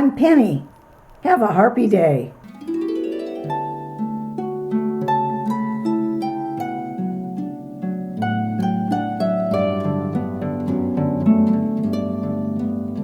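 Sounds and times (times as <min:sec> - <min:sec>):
harp music: 0:02.4 - 0:13.0.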